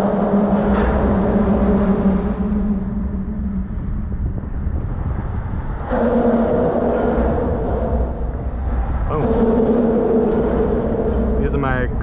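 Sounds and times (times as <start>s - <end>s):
low rumble of traffic overhead: 0.0s - 12.0s
steady humming drone: 0.0s - 12.0s.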